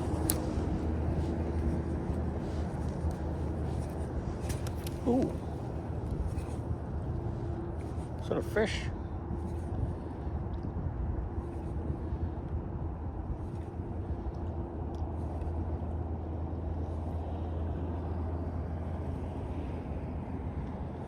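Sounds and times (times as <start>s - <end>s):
low engine-like hum: 0.0s - 21.0s.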